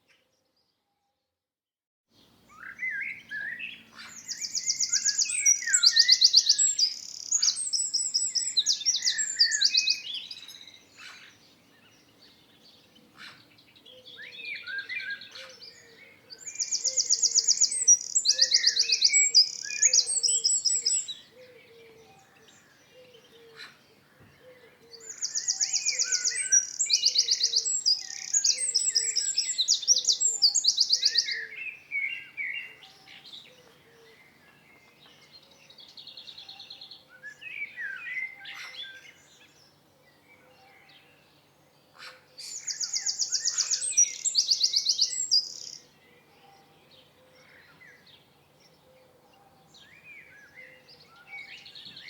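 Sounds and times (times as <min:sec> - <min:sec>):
songbird singing: 0:02.1 - 0:52.0.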